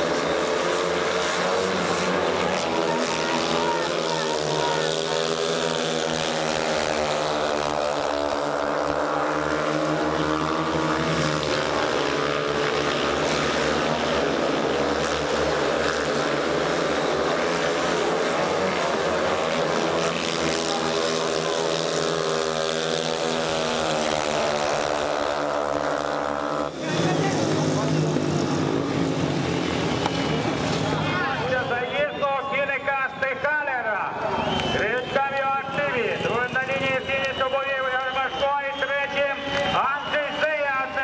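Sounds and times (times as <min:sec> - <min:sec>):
motorcycle engines racing: 0:00.0 - 0:41.0.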